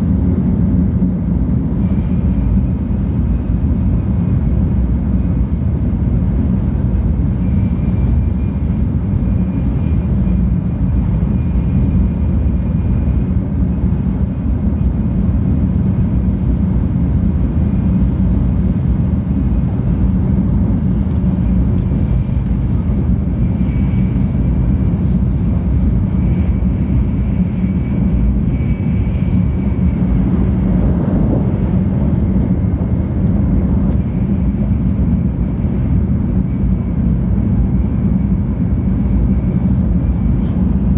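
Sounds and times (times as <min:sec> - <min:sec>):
low rumble of running train: 0:00.0 - 0:40.9.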